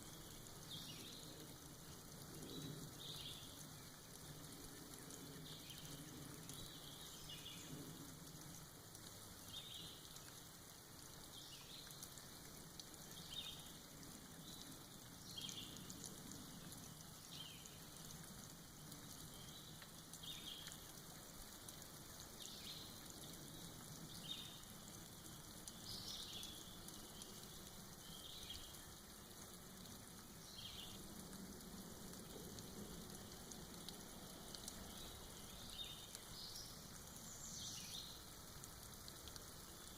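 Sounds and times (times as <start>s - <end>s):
soft rain patter: 0.0s - 39.9s.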